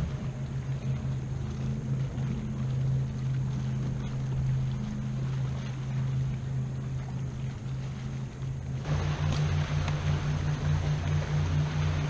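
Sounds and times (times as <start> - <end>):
boat motor droning: 0.0 - 12.0
water lapping on hull: 0.0 - 12.0.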